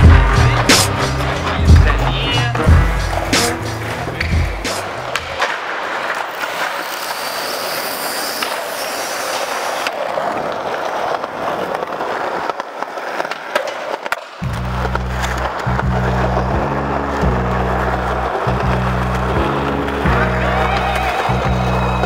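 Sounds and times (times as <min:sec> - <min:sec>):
skateboard ollie clacks: 0:00.0 - 0:22.0
skateboard wheels rolling: 0:00.0 - 0:22.0.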